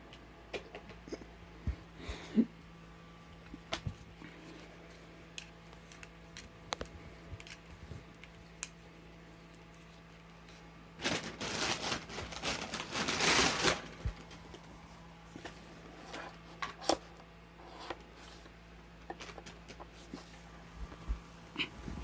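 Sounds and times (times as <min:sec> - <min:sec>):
steady low hum: 0:00.0 - 0:22.0
rustling and crinkling: 0:03.2 - 0:22.0.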